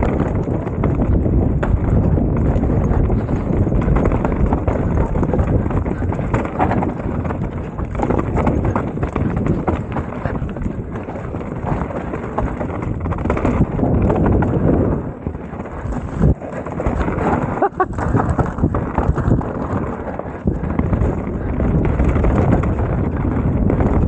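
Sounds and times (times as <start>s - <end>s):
bike rattling on rough trail: 0.0s - 24.0s.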